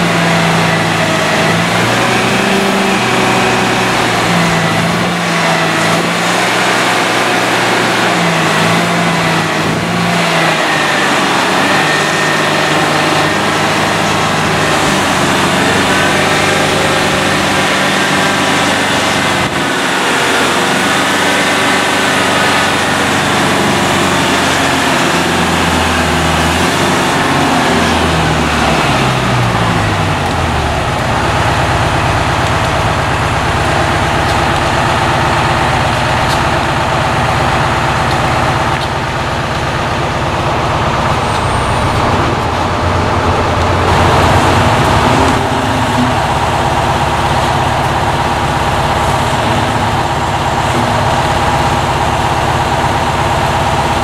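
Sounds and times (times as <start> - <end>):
crane diesel engine revving: 0.0 - 54.0.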